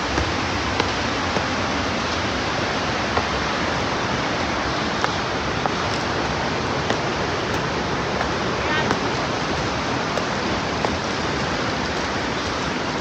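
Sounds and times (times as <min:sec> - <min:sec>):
river rushing through rapids: 0:00.0 - 0:13.0.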